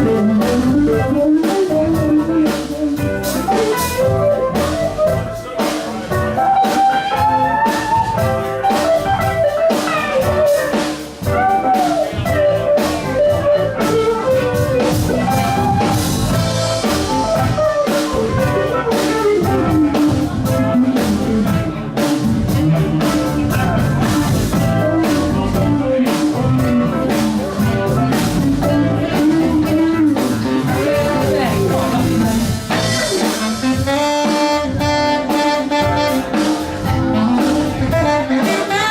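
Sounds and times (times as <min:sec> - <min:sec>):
electric guitar solo: 0:00.0 - 0:05.6, 0:06.3 - 0:38.9
blues band playing: 0:00.0 - 0:38.9.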